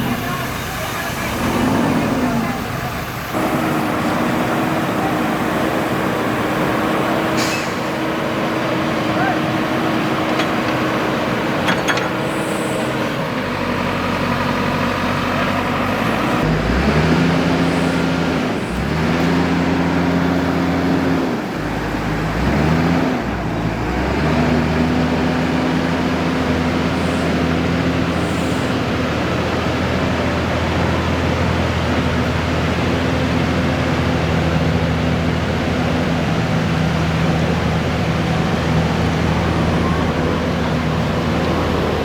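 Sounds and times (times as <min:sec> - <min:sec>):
diesel engine revving: 0:00.0 - 0:42.0.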